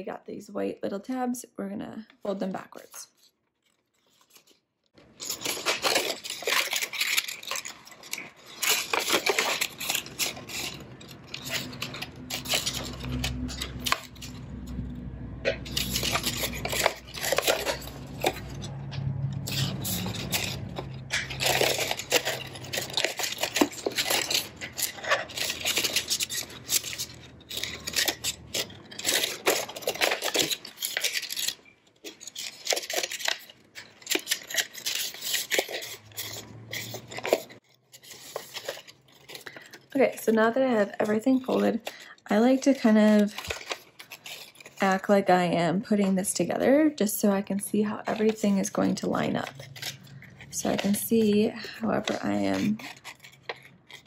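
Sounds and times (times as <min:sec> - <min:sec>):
paper crinkling and crackling: 0:02.6 - 0:54.0.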